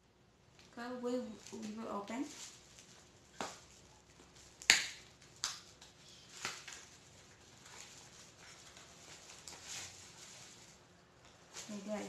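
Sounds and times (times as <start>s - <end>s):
plastic crinkling: 0.6s - 12.0s.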